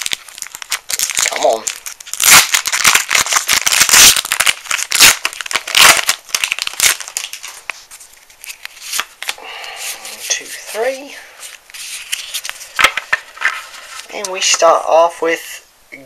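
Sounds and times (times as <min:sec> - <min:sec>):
foil wrapper crinkling and tearing: 0:00.0 - 0:14.6
cards rustling: 0:00.0 - 0:14.7.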